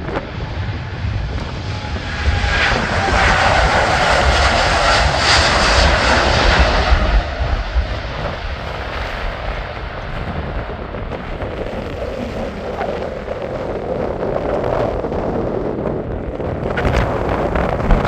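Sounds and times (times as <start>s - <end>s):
jet airliner taking off: 0.0s - 18.0s.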